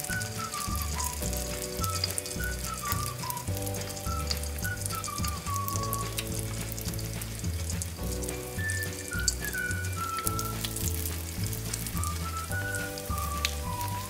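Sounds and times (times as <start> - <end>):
background music: 0.0 - 14.0
dough sizzling in hot oil: 0.0 - 14.0.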